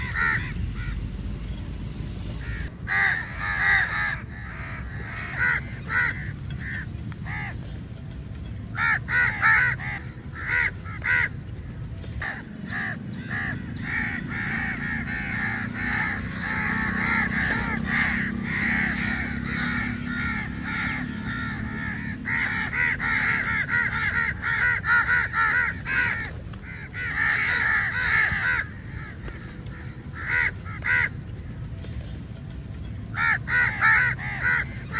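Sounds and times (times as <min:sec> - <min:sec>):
crows cawing: 0:00.0 - 0:01.0, 0:02.4 - 0:07.7, 0:08.7 - 0:32.2, 0:33.1 - 0:34.9.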